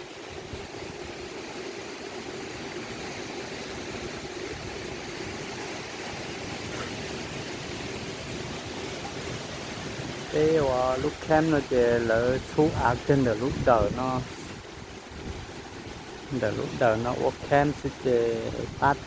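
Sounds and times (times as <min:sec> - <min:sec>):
strong wind blowing: 0:02.4 - 0:19.0.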